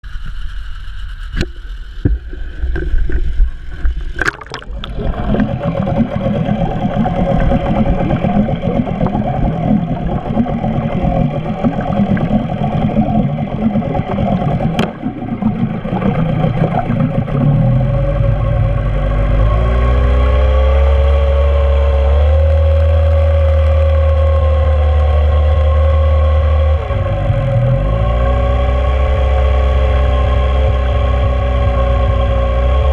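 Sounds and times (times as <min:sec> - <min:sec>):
outboard motor running: 0:01.3 - 0:32.9
propeller churning water: 0:01.4 - 0:32.9.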